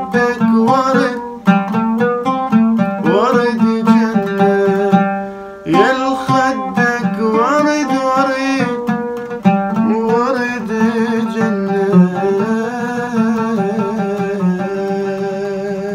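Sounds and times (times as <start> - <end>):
man singing: 0.0 - 15.9
oud plucked notes: 0.0 - 15.9.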